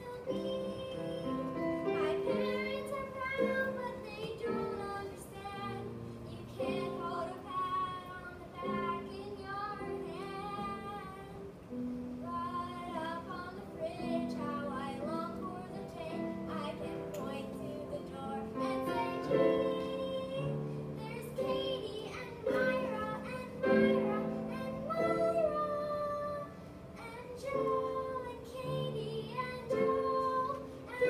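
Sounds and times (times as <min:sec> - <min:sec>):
girl singing: 0:00.0 - 0:31.0.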